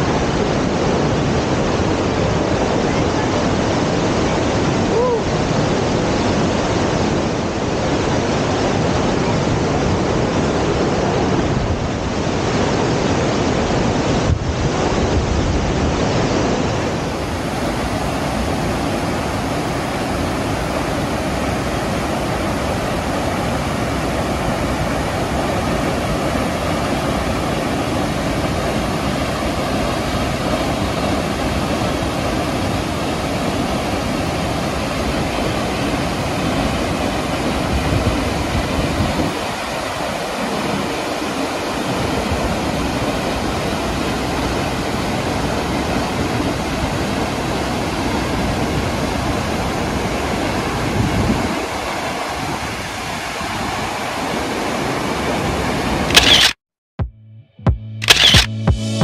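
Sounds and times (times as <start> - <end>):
waterfall rushing: 0.0 - 56.5.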